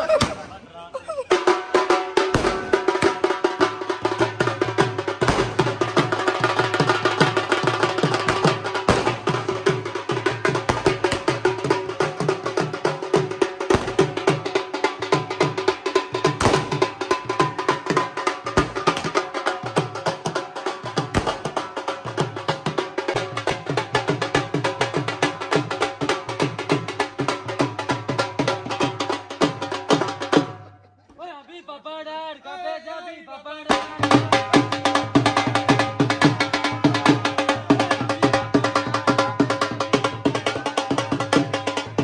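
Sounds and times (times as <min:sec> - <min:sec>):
dhol drum fast rhythm: 0:01.0 - 0:31.4, 0:33.7 - 0:42.0.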